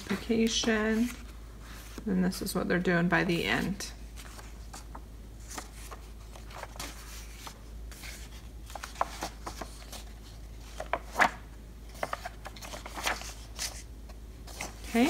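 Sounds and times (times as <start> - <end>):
paper pages flipping: 0.0 - 2.1, 3.6 - 15.0.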